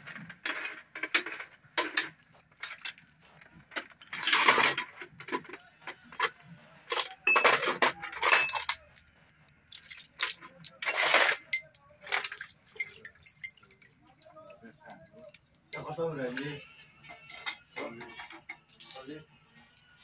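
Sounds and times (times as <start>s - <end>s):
metal tools clinking and tapping: 0.0s - 20.0s.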